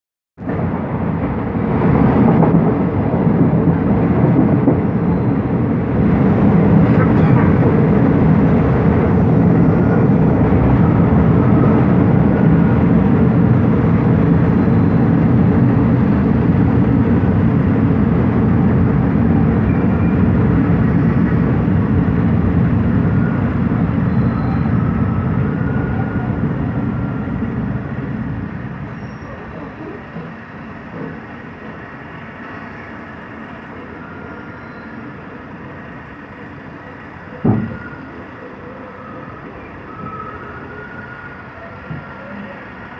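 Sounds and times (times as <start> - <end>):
train wheels rumbling on rails: 0.4 - 42.9.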